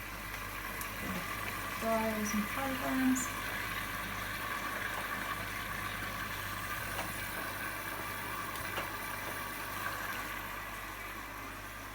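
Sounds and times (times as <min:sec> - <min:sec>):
washing machine filling with water: 0:00.0 - 0:11.9.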